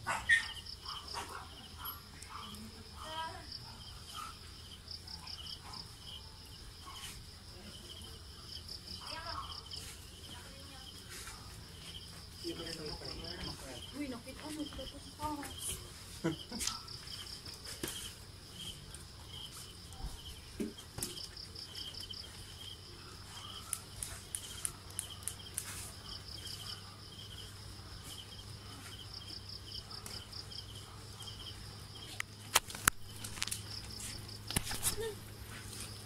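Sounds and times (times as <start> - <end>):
insects chirping in pulsed trills: 0.0 - 11.0, 11.6 - 36.0.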